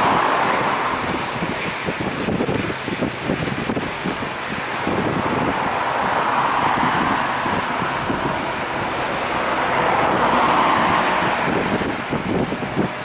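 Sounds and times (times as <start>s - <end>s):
jet engine rush: 0.0s - 13.0s
wind buffeting microphone: 0.0s - 13.0s.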